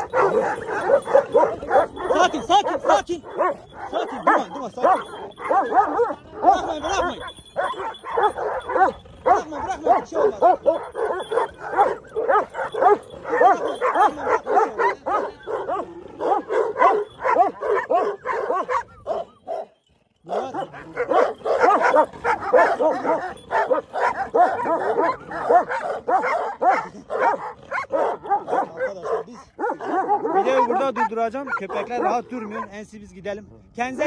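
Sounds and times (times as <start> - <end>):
dogs barking and yelping: 0.0 - 34.0.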